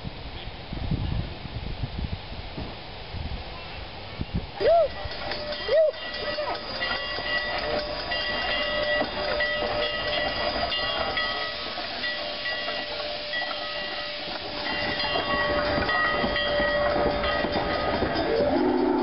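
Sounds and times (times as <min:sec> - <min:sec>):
hiss of steam: 0:01.0 - 0:18.8.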